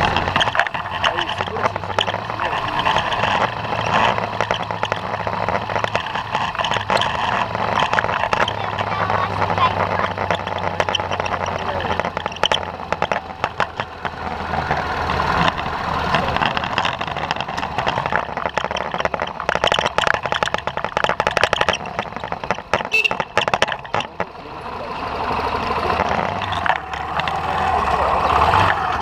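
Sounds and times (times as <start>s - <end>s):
motorcycle engine humming: 0.0s - 29.0s.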